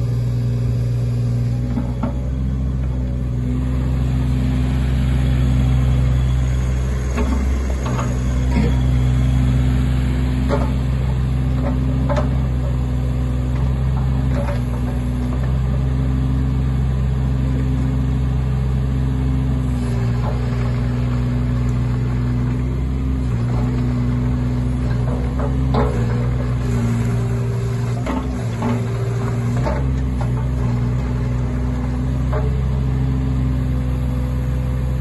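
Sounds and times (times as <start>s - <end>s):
diesel excavator engine running: 0.0s - 35.0s.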